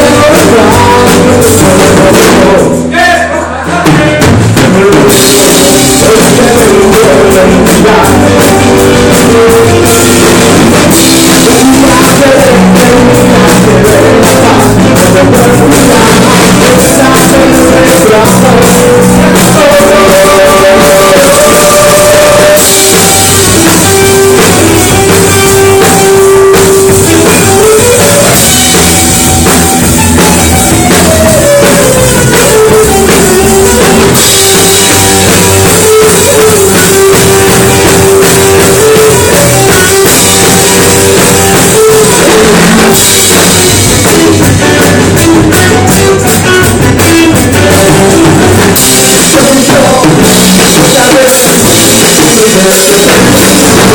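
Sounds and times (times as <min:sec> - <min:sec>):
rock music with singing: 0:00.0 - 0:53.9.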